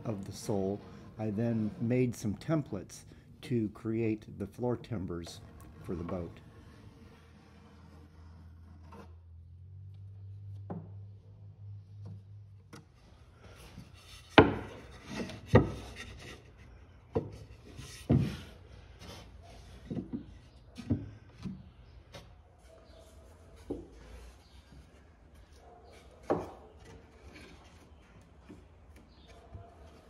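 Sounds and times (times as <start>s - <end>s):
wood rubbing: 0.0s - 30.0s.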